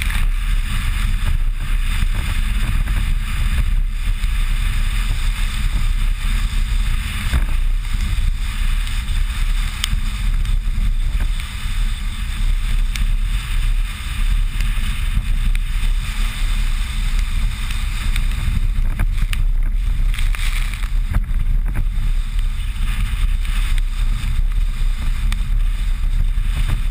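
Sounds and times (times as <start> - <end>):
car engine and road rumble: 0.0 - 26.9
wind noise on microphone: 0.0 - 26.9.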